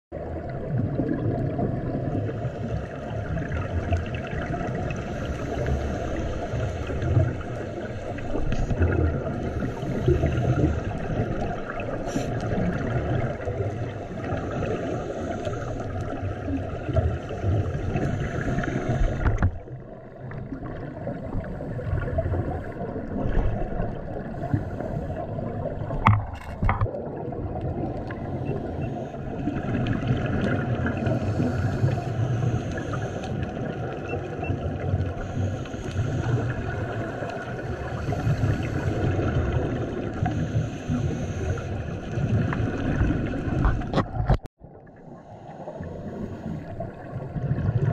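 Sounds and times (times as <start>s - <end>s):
muffled underwater rush: 0.1s - 47.9s
diver's bubbles gurgling: 0.2s - 47.9s.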